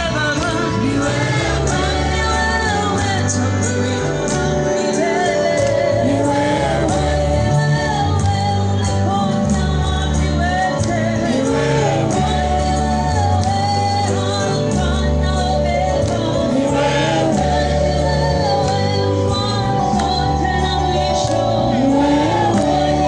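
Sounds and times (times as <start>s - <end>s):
gospel music with singing voices: 0.0s - 23.0s.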